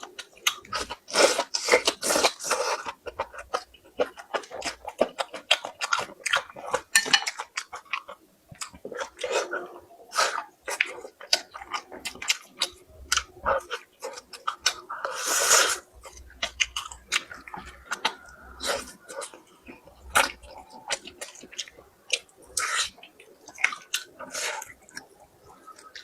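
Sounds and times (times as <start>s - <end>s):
chewing and lip-smacking: 0.0s - 26.0s.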